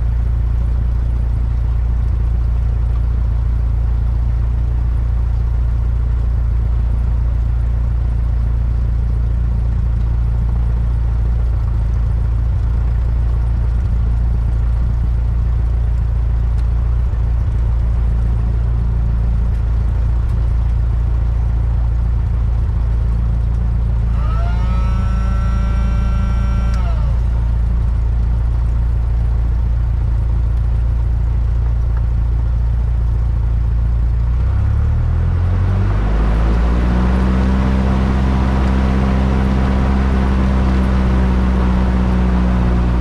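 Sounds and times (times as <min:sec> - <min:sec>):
light plane engine and propeller: 0:00.0 - 0:43.0.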